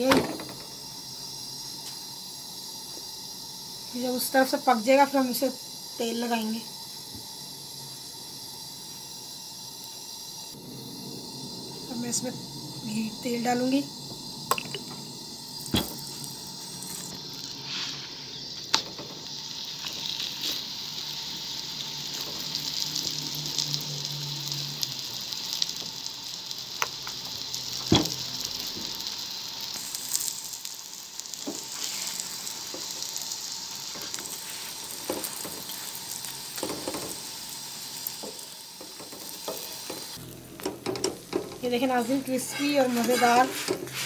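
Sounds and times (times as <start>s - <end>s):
flatbread sizzling in oil: 0.0s - 44.0s.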